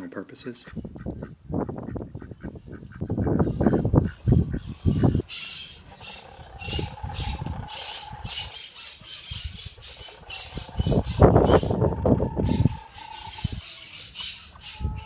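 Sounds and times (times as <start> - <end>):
birds squawking: 0.6 - 15.0.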